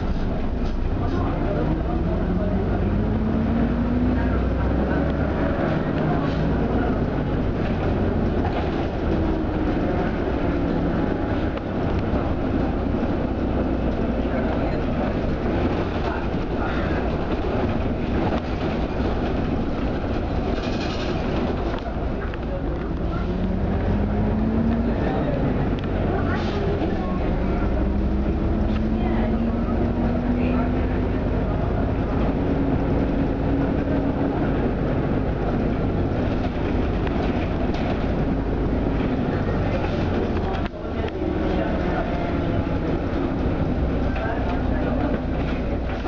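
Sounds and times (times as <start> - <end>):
bus engine low rumble: 0.0 - 46.0
road noise: 0.0 - 46.0.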